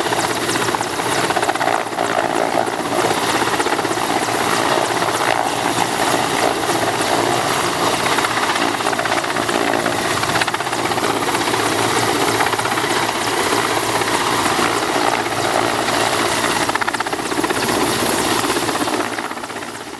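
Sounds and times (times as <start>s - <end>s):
helicopter rotor beating: 0.0s - 19.9s
helicopter turbines running: 0.0s - 19.9s.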